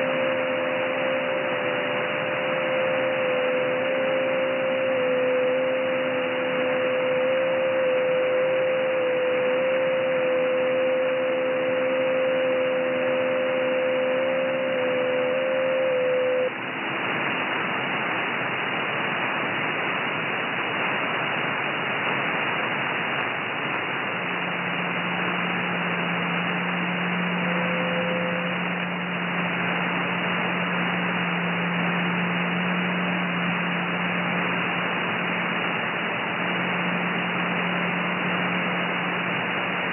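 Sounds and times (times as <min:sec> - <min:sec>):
faint digital-mode tones: 0:00.0 - 0:16.6, 0:24.2 - 0:39.9
low steady tone: 0:00.0 - 0:21.4, 0:22.3 - 0:39.9
radio band noise hiss: 0:00.0 - 0:39.9.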